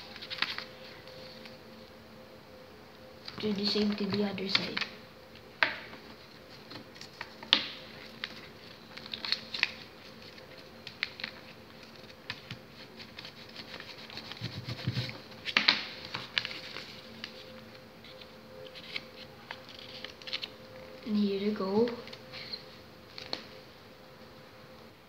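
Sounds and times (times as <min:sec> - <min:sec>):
paper rustling and crinkling: 0:00.0 - 0:01.7, 0:03.2 - 0:05.0, 0:05.8 - 0:21.1, 0:21.8 - 0:23.6.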